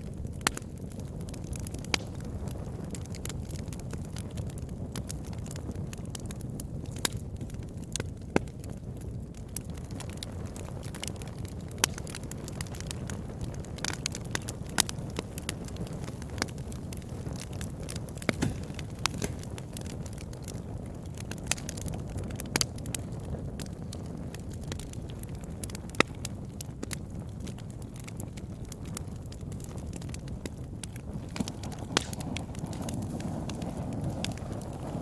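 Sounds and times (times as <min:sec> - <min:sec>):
burning wood crackling and popping: 0:00.0 - 0:35.0
campfire flame rumble: 0:00.0 - 0:35.0.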